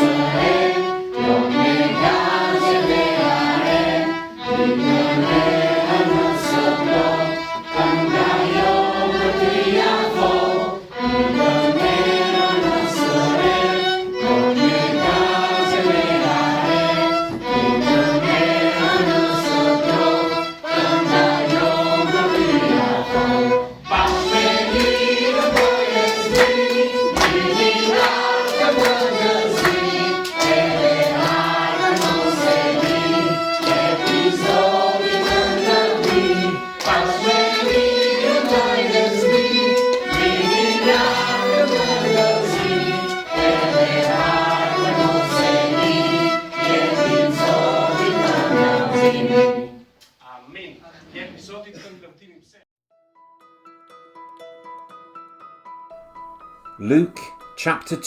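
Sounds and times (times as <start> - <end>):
choir singing a hymn: 0.0 - 49.9
strings accompaniment: 0.0 - 49.9, 56.8 - 58.0.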